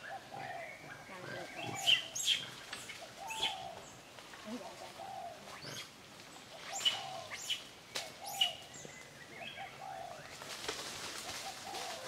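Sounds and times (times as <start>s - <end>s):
low bird calls: 0.0s - 10.5s, 11.1s - 12.0s.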